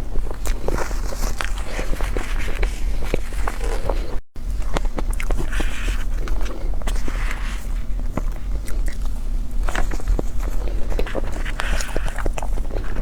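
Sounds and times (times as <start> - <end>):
chewing with wet mouth sounds: 0.0 - 13.0
low steady hum: 0.0 - 13.0.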